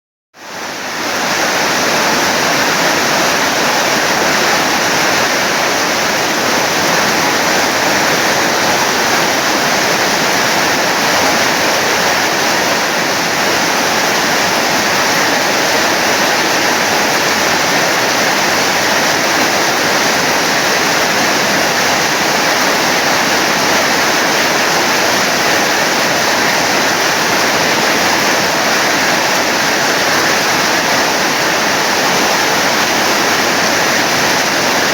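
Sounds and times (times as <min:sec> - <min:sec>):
heavy rain pouring: 0:00.4 - 0:34.9.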